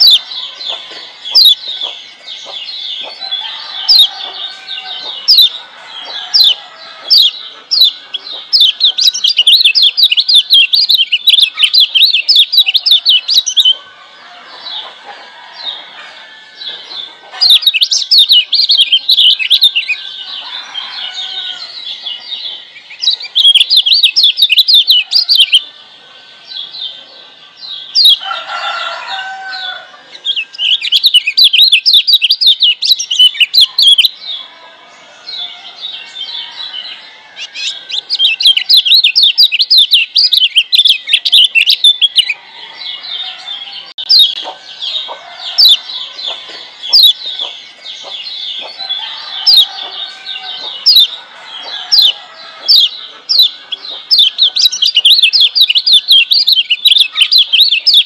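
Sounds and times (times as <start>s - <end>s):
bird chirping song: 0.0s - 58.0s.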